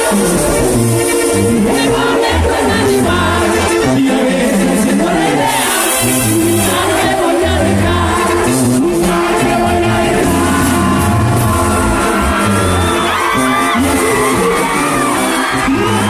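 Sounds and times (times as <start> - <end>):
live banda music: 0.0 - 16.0
person singing: 0.0 - 16.0.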